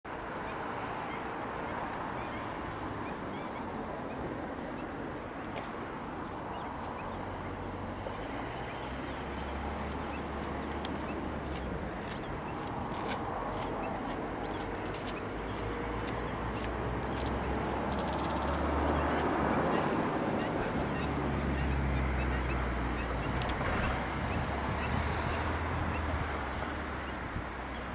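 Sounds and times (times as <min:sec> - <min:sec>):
wind on microphone: 0:01.5 - 0:27.9.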